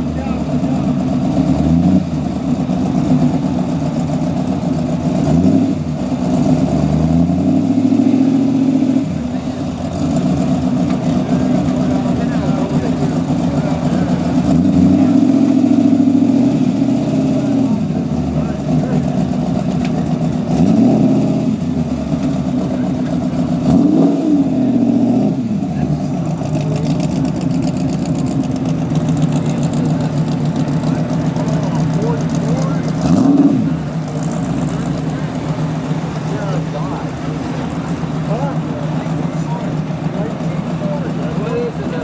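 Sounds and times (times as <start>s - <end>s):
car engine idling: 0.0s - 42.0s
car engine revving: 0.0s - 42.0s.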